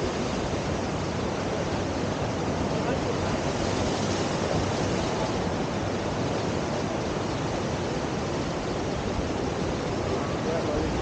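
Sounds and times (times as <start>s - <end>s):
river whitewater rushing: 0.0s - 11.0s.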